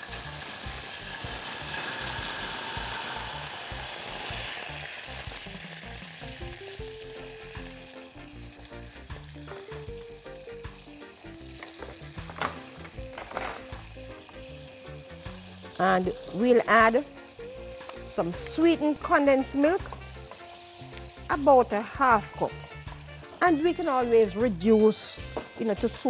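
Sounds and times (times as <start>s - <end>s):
quiet background music: 0.0s - 26.0s.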